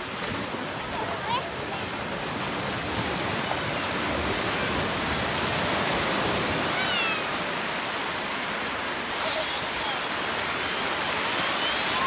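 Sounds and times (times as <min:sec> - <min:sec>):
sea waves breaking: 0:00.0 - 0:12.0.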